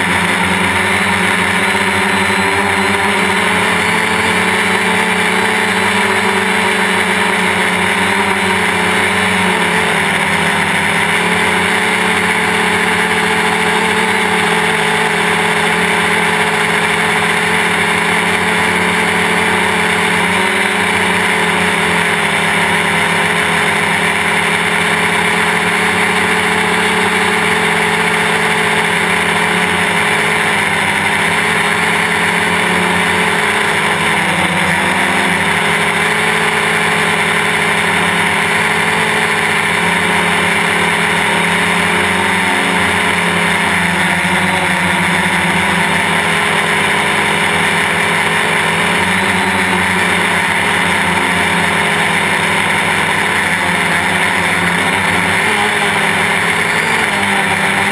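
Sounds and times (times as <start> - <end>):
drone motors buzzing whine: 0.0 - 57.9.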